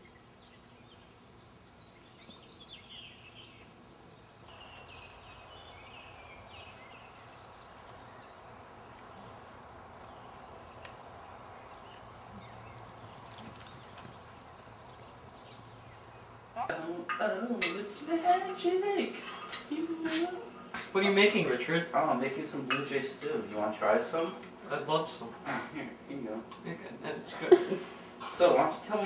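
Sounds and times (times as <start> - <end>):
steady outdoor noise: 0.0 - 29.0.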